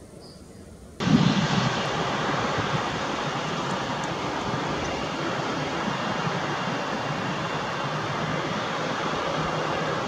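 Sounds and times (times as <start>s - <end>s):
jet engines running: 1.0s - 10.0s.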